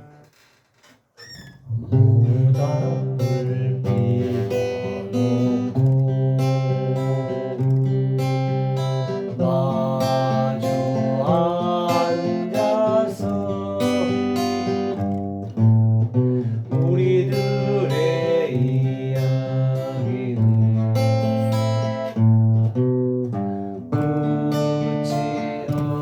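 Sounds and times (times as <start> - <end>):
acoustic guitar strumming: 0.0 - 0.3, 1.2 - 26.0.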